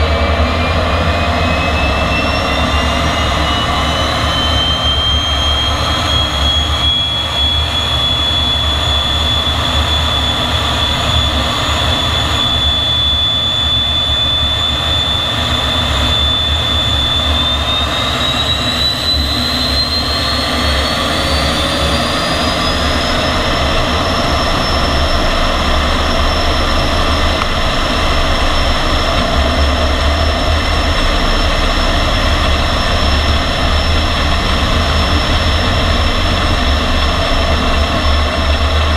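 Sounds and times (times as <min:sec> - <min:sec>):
jet engine whine and rush: 0:00.0 - 0:38.9.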